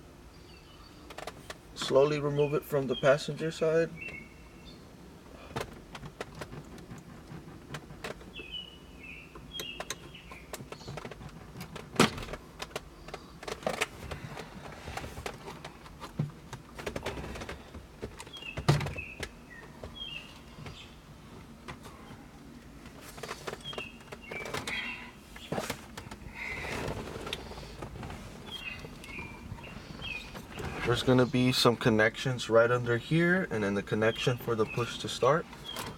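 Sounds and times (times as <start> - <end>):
birds chirping: 0.2 - 35.9.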